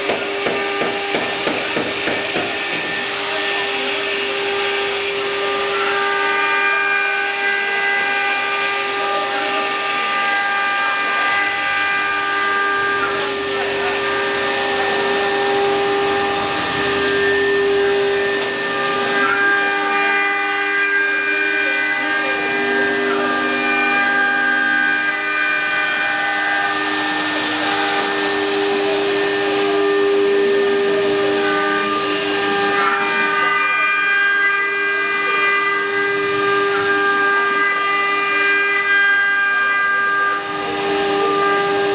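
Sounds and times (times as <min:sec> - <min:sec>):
router spindle motors whining: 0:00.0 - 0:41.9.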